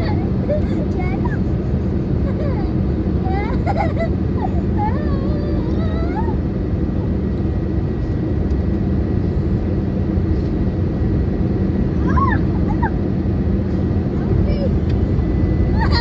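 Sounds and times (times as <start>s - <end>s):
airplane cabin roar: 0.0s - 16.0s.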